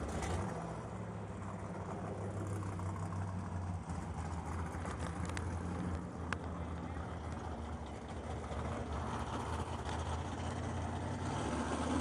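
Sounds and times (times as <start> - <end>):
race car engines idling: 0.0 - 11.2.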